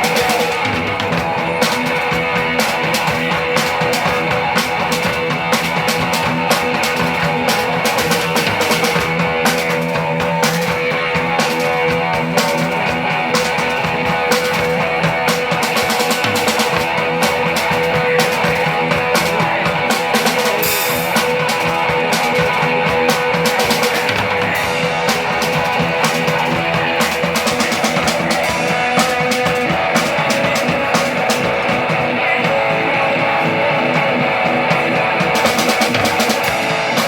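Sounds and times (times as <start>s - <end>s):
distorted electric guitar: 0.0s - 37.0s
drum kit hitting: 0.0s - 37.0s
punk rock band playing: 0.0s - 37.0s.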